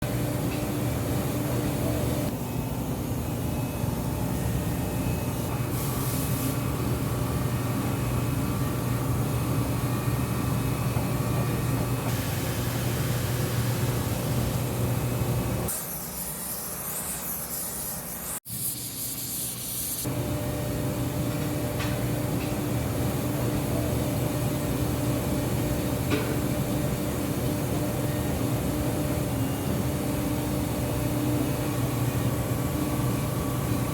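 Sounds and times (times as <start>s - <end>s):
machine humming and whirring: 0.0s - 33.9s.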